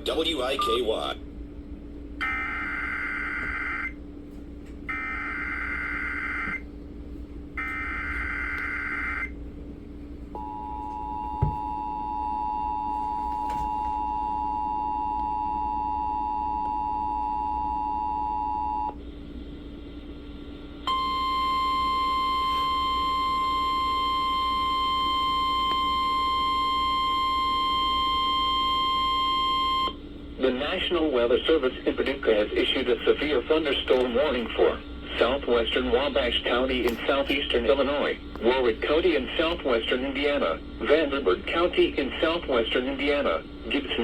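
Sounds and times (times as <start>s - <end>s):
steady warning alarm tone: 2.2s - 4.0s, 4.9s - 6.6s, 7.6s - 9.4s, 10.3s - 19.0s, 20.8s - 44.0s.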